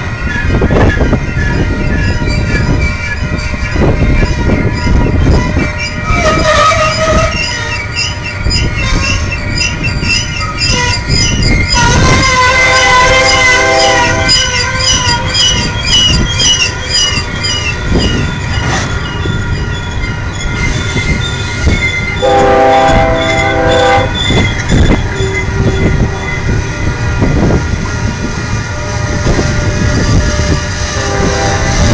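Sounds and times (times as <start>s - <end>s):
train cars rumbling on rails: 0.0s - 31.9s
wheels squealing on rail: 0.0s - 31.9s.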